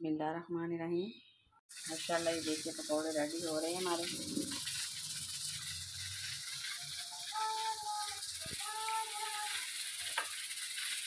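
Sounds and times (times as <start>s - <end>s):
food deep-frying in hot oil: 1.7s - 11.0s.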